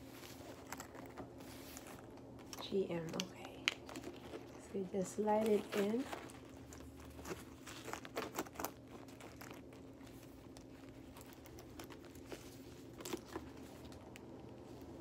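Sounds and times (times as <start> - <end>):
handbag rustling: 0.0 - 15.0.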